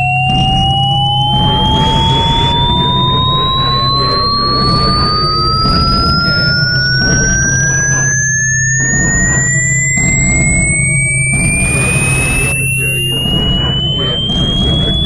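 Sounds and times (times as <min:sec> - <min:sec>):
fainter high tone climbing: 0:00.0 - 0:15.0
industrial drone with low hum: 0:00.0 - 0:15.0
rising sine tone sweep: 0:00.0 - 0:15.0.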